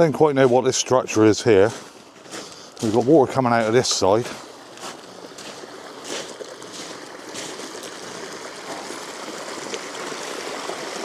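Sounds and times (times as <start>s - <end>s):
water trickling from outlet: 2.1s - 11.0s.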